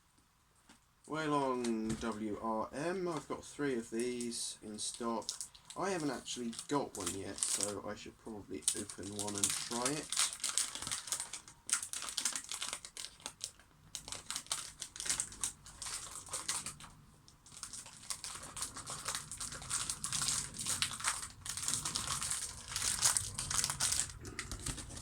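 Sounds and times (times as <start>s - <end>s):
plastic packaging crinkling: 1.4s - 25.0s.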